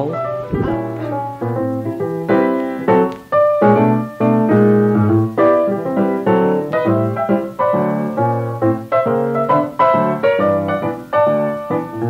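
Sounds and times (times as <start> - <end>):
piano playing chords: 0.0 - 12.0.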